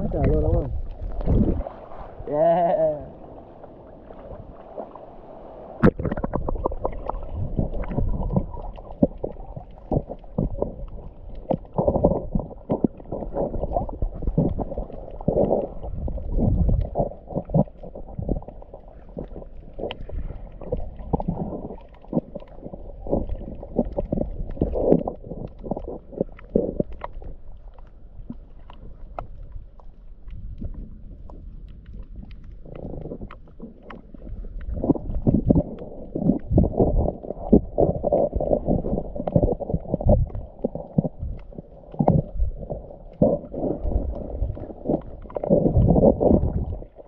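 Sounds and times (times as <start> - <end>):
underwater gurgling and sloshing: 0.0 - 47.0.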